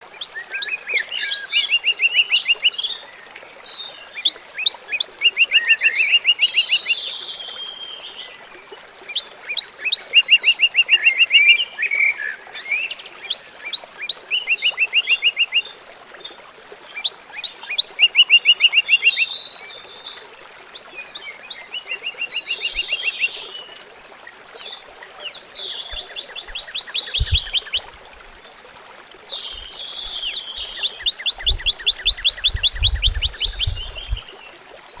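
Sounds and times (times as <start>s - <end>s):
faint flowing water hiss: 0.0s - 35.0s
songbirds trilling and chirping: 0.0s - 35.0s.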